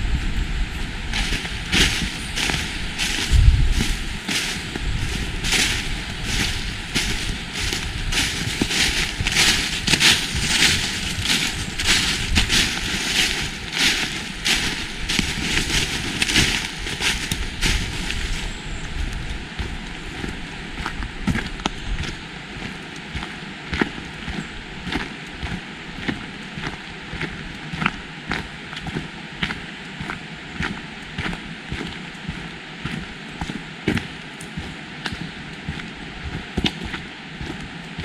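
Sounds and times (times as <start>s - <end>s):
steady outdoor hiss: 0.0s - 38.0s
footsteps crunching on forest path: 0.7s - 38.0s.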